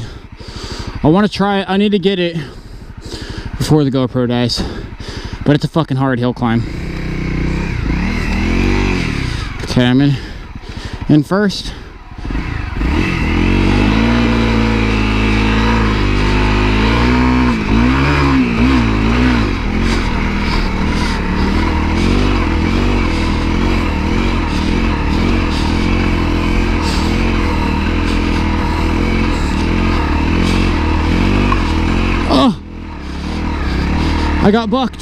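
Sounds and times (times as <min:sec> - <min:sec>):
motorcycle engine revving hard: 0:00.0 - 0:35.0.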